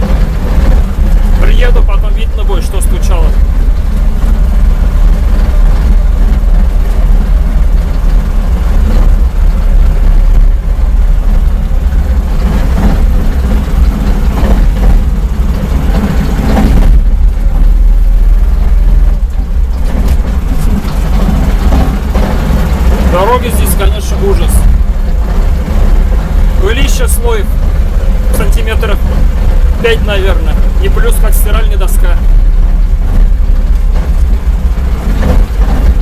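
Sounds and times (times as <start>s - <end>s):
engine and road rumble: 0.0s - 36.0s.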